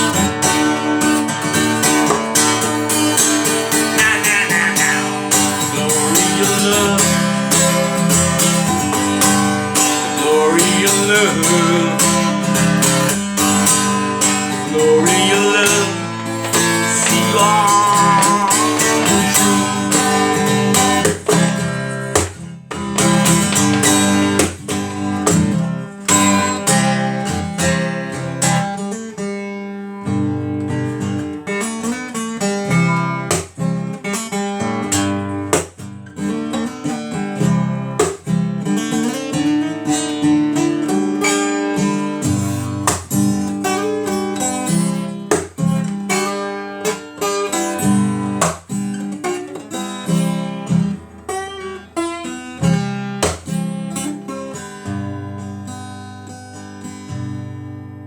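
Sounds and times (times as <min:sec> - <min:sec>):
acoustic guitar strummed and plucked: 0:00.0 - 0:58.0.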